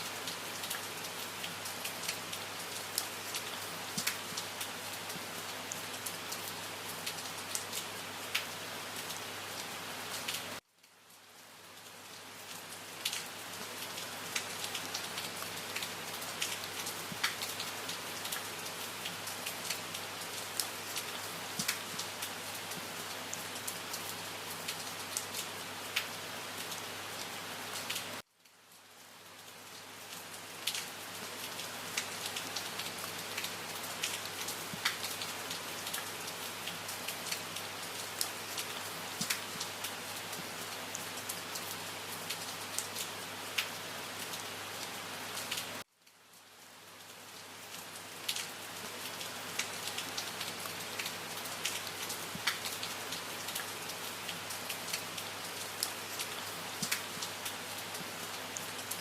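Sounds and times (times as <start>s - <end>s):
rain drops ticking on hard surface: 0.0s - 59.0s.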